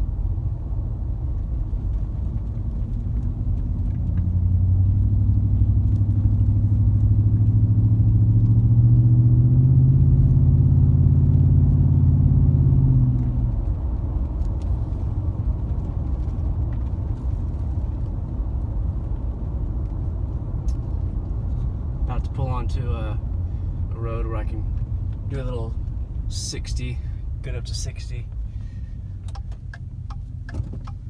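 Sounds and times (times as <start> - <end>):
deep engine exhaust note: 2.4 - 30.5.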